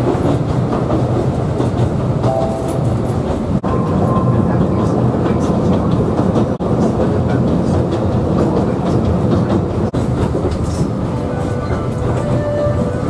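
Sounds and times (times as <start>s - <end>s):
rail clatter: 0.0s - 13.0s
train wheels rumbling: 0.0s - 13.0s.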